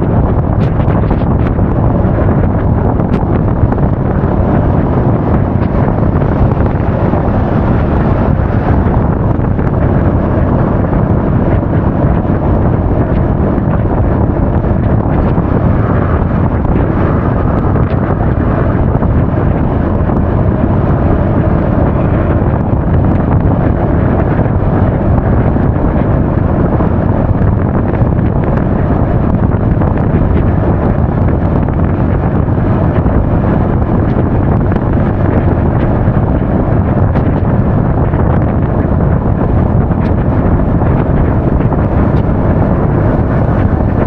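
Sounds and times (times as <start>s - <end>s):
road noise: 0.0s - 44.0s
wind buffeting microphone: 0.0s - 44.0s.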